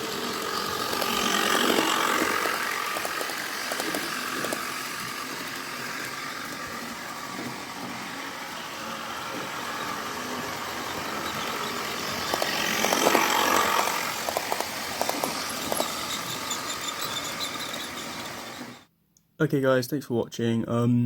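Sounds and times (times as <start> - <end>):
model train running on track: 0.0 - 18.9.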